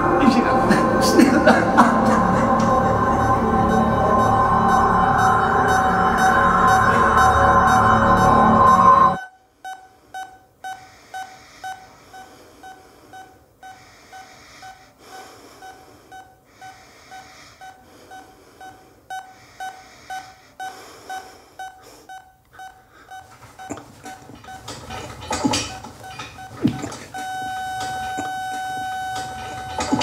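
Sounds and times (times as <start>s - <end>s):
heart monitor beeping: 0.0s - 30.0s.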